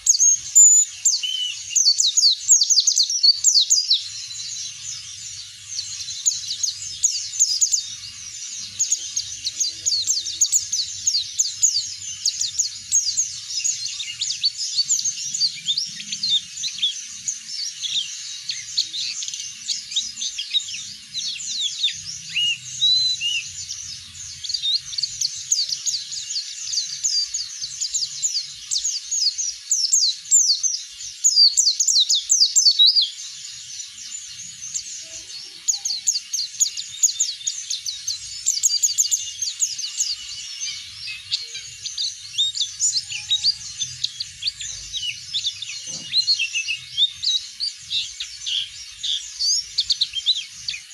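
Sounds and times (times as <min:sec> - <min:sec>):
bird high twittering song: 0:00.0 - 0:50.9.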